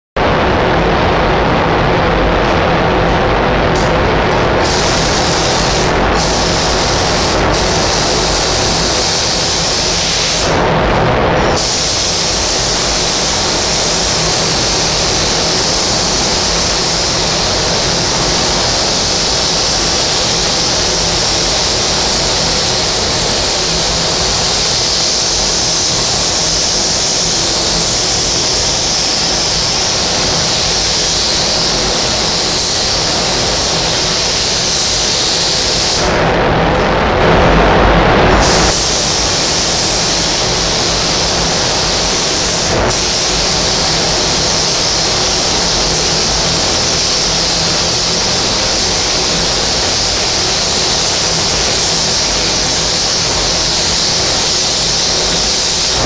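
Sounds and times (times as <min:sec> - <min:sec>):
spray gun hissing: 0:03.7 - 0:36.2, 0:38.4 - 0:56.0.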